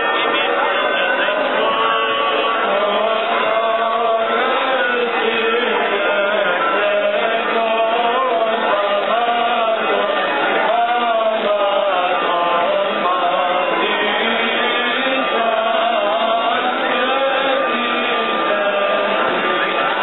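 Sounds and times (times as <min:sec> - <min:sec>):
chant singing: 0:00.0 - 0:20.0.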